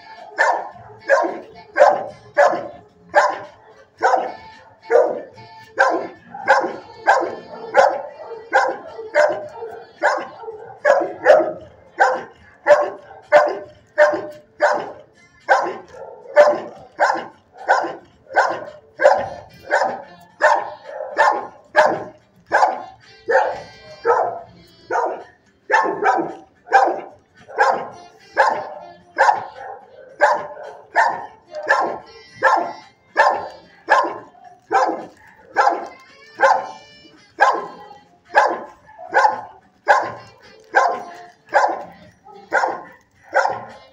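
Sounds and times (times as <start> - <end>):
dog barking: 0.0 - 43.9.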